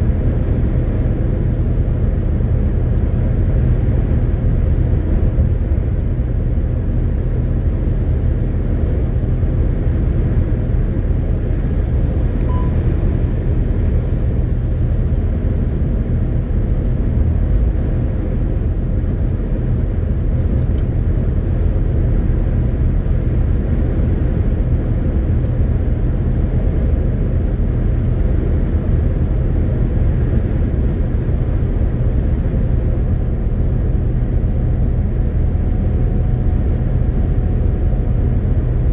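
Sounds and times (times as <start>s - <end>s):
diesel truck engine droning: 0.0s - 38.9s
road noise: 0.0s - 38.9s.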